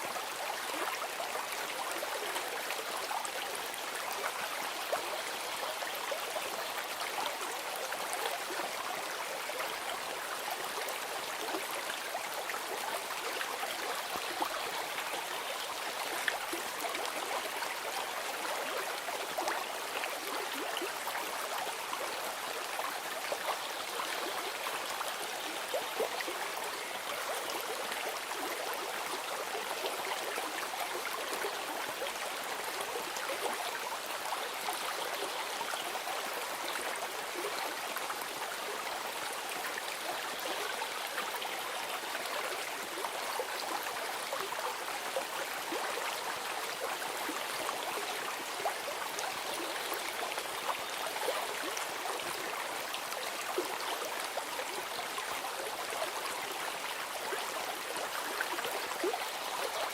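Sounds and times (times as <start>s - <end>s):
stream babbling and trickling: 0.0s - 59.9s.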